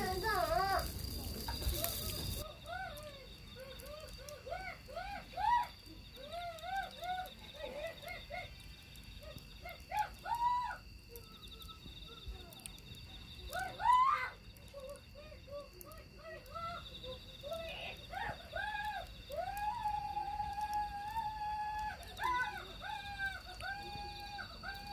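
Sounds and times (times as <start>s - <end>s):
chorus of animal calls: 0.0s - 24.9s.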